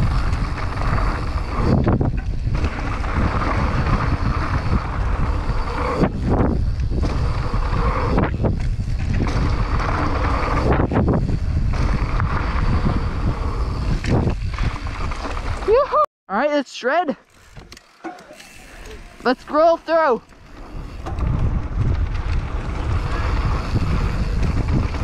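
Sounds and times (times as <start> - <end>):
bike tyres crunching on dirt: 0.0 - 15.9, 17.2 - 25.0
wind rushing over microphone: 0.0 - 16.0, 20.0 - 25.0.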